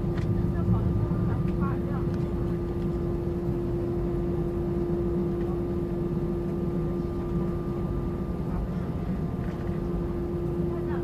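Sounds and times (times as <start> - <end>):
airliner drone: 0.0 - 11.0.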